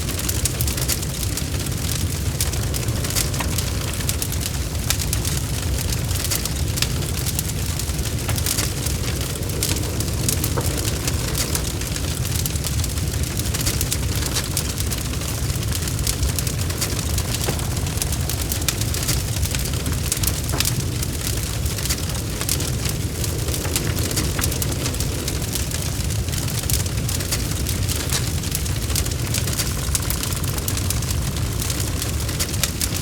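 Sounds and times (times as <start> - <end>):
burning wood crackling and popping: 0.0 - 33.0
low rumble of flames: 0.0 - 33.0.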